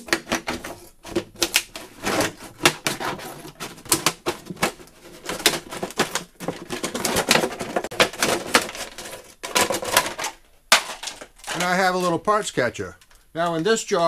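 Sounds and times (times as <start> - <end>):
scissors cutting plastic: 0.0 - 11.8.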